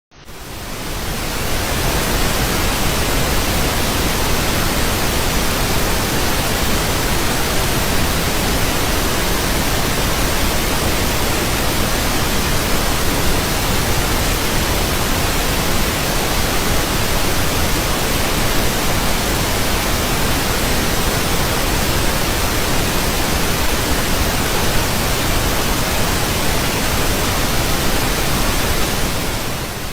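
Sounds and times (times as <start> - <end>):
steady pink noise hiss: 0.1 - 29.9.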